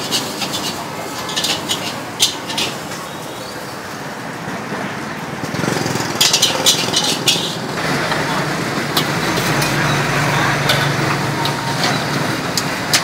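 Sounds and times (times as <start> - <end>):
metal pots and utensils clinking: 0.0 - 3.2, 5.5 - 13.0.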